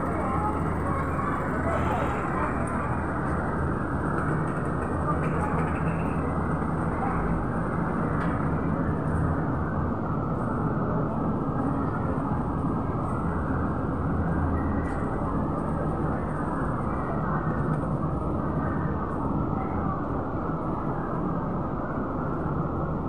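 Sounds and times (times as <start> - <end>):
low rumble of road traffic: 0.0 - 23.0.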